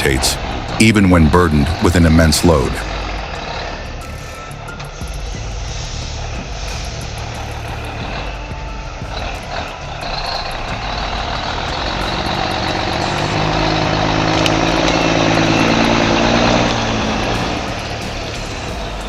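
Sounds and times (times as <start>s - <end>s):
truck diesel engine under load: 0.0s - 19.0s.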